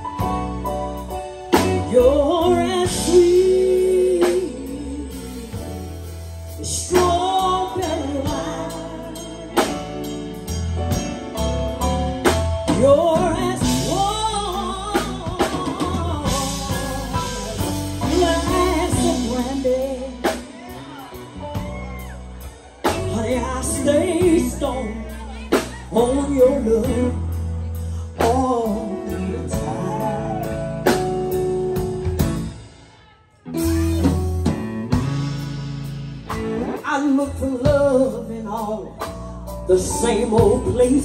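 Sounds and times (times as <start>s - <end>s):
person singing: 0.0s - 10.6s, 12.6s - 34.3s, 36.6s - 41.0s
band playing slow ballad: 0.0s - 41.0s.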